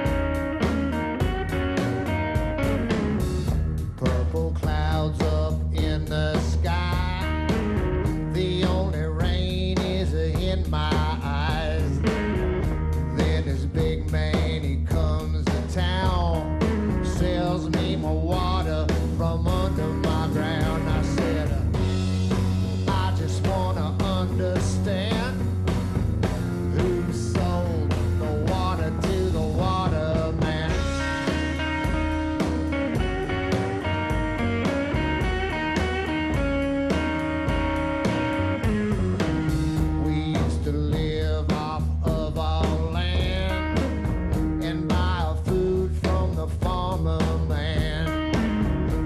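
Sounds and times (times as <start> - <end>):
double bass line: 0.0 - 49.0
driving drum beat: 0.0 - 49.0
electric guitar with bent notes: 0.0 - 49.0.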